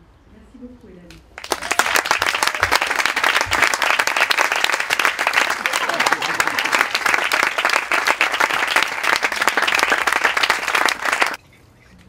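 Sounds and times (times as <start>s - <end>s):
group applauding: 1.4s - 11.4s.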